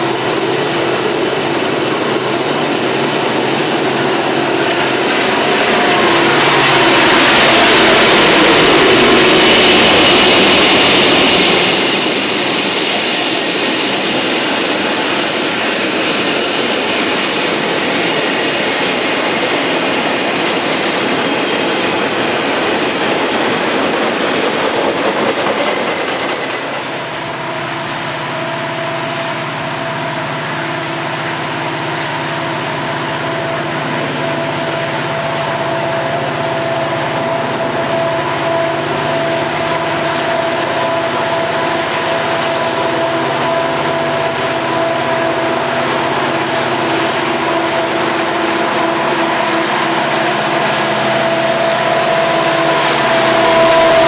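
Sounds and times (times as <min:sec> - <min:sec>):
diesel locomotive engine drone: 0:00.0 - 0:54.0
locomotive whine: 0:00.0 - 0:54.0.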